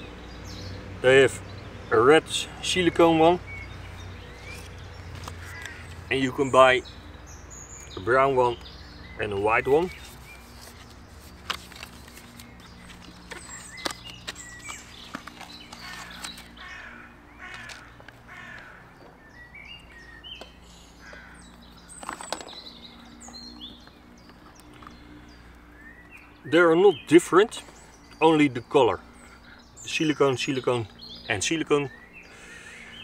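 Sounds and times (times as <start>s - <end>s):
birds calling and chirping: 0.0s - 33.0s.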